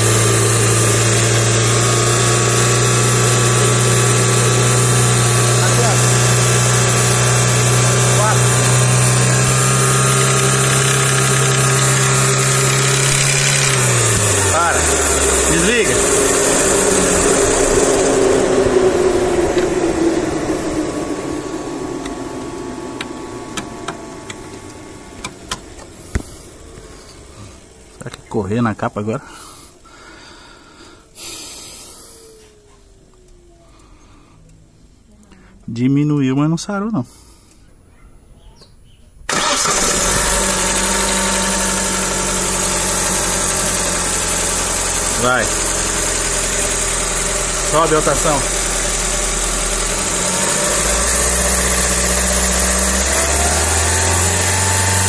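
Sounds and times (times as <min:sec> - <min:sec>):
car engine running: 0:00.0 - 0:29.0, 0:39.3 - 0:55.0.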